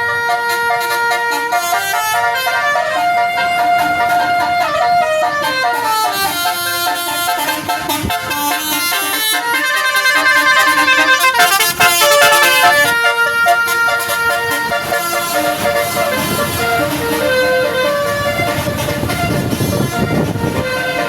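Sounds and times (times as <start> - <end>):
multi-trumpet air horn melody: 0.0 - 21.0.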